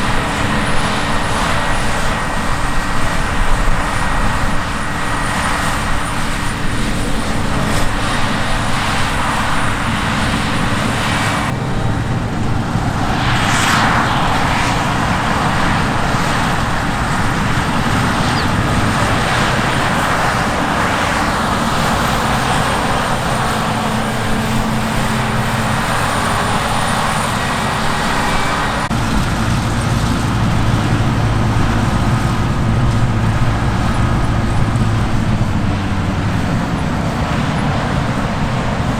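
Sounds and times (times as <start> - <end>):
diesel harvest machinery running: 0.0 - 38.9.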